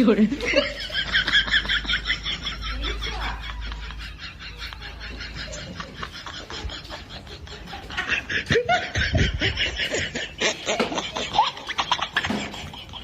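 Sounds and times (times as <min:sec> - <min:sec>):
person laughing: 0:00.3 - 0:13.0.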